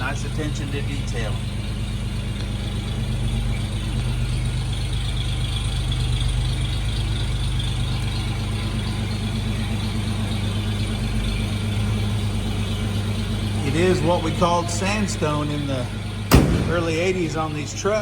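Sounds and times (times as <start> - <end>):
pickup engine idling: 0.0 - 18.0.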